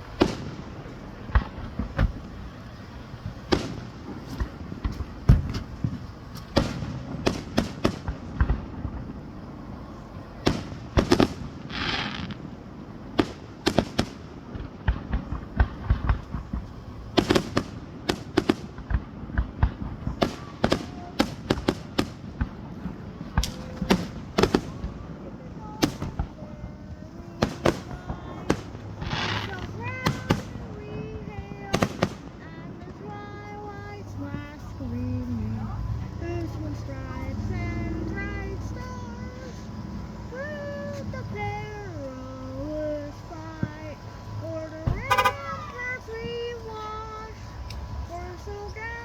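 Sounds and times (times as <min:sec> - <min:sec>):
firework hiss: 0:00.0 - 0:49.0
firework shells booming: 0:00.0 - 0:49.0.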